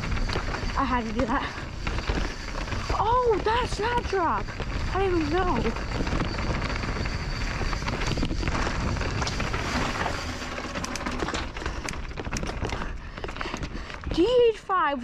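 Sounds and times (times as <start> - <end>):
bike clattering: 0.0 - 14.3
wind on microphone: 0.0 - 14.4
tyres crunching over rock: 0.0 - 14.6.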